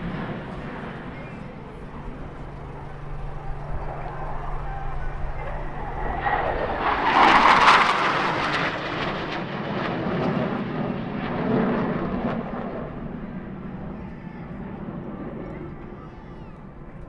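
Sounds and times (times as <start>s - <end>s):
jet passing by: 0.0s - 17.0s.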